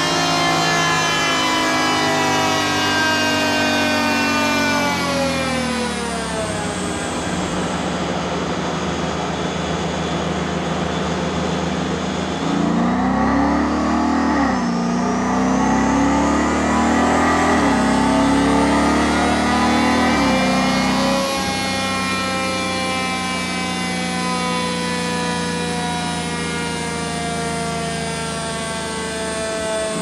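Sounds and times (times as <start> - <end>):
car engine revving under load: 0.0 - 26.7.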